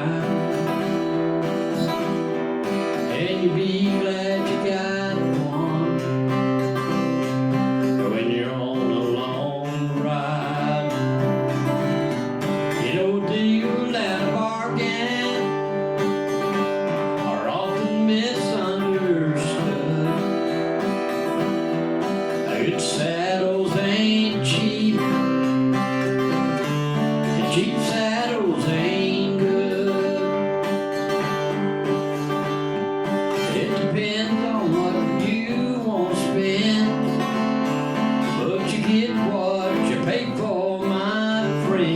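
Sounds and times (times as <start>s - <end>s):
man singing: 0.0s - 41.9s
strummed acoustic guitar: 0.0s - 41.9s.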